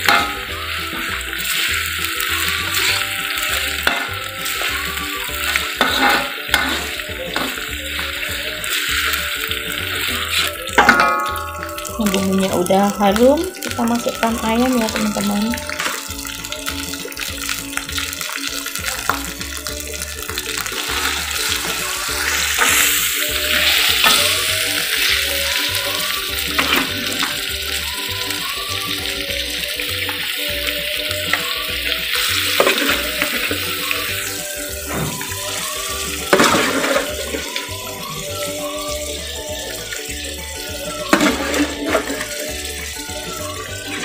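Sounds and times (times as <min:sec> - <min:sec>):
chicken sizzling in wok: 0:00.0 - 0:44.0.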